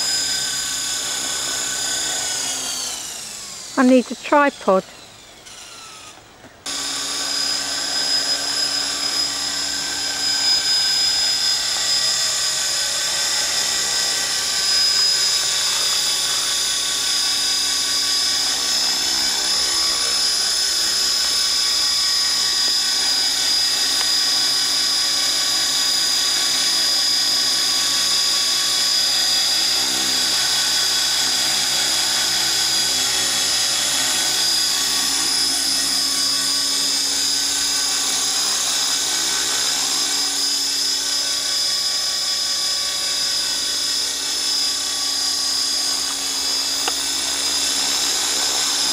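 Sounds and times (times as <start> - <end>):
model helicopter whine: 0.0 - 48.9.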